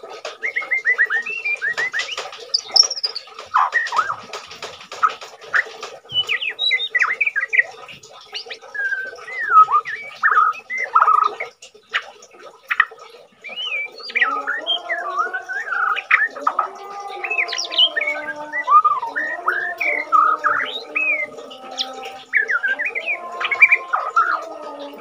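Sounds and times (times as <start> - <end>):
bird whistling song: 0.3 - 4.4, 5.5 - 11.5, 13.4 - 25.0.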